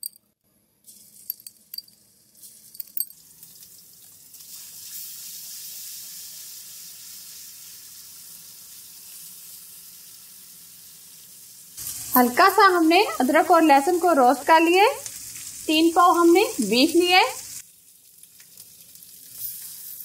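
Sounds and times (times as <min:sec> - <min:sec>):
paste sizzling in hot ghee: 0:03.2 - 0:20.0.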